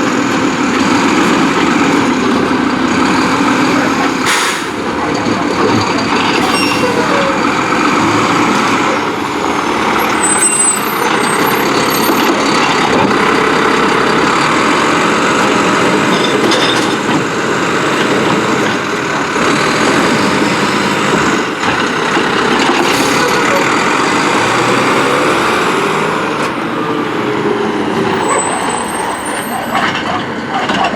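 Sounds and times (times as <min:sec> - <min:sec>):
garbage truck engine running: 0:00.0 - 0:30.9.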